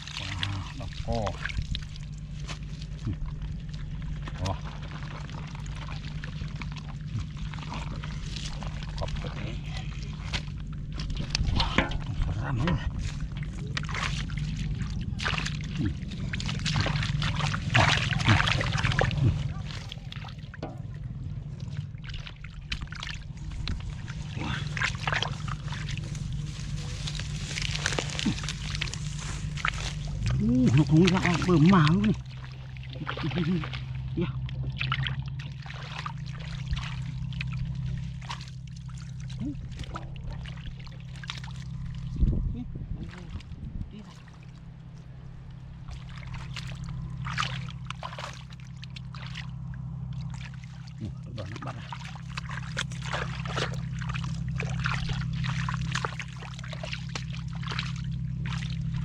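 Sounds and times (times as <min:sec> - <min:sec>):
steady low hum: 0:00.0 - 0:59.0
water splashing and sloshing: 0:00.0 - 0:59.0.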